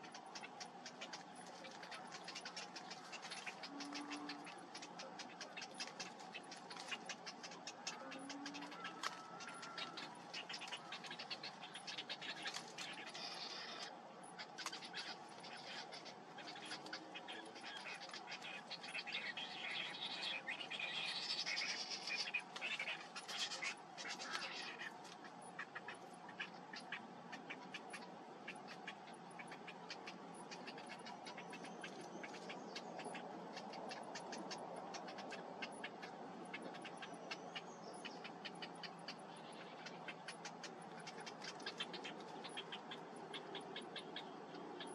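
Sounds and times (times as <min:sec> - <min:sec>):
bird chicks begging calls: 0:00.0 - 0:44.9
low background hiss: 0:00.0 - 0:44.9.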